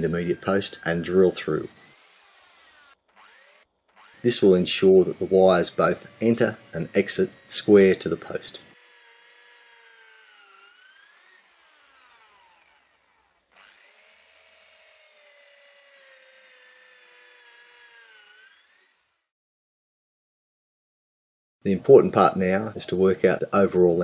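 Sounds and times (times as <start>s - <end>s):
electric drill boring wood: 0.0s - 19.3s.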